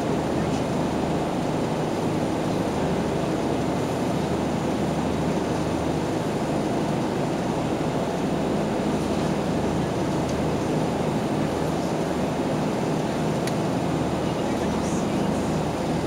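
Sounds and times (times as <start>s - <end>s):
boat engine drone: 0.0s - 16.0s
water rushing along hull: 0.0s - 16.0s.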